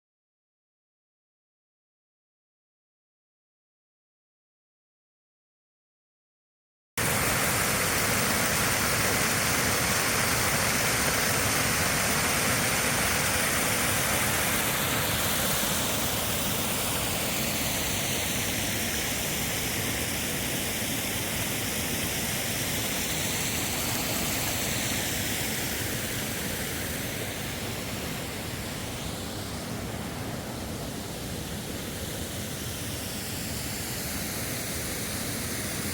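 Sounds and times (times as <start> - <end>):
waterfall rushing: 7.0 - 35.9.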